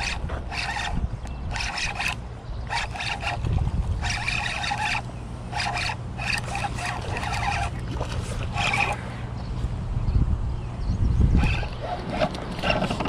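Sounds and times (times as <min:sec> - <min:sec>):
fishing reel whirring: 0:00.0 - 0:09.1, 0:11.4 - 0:13.0
steady low rumble: 0:00.0 - 0:13.0.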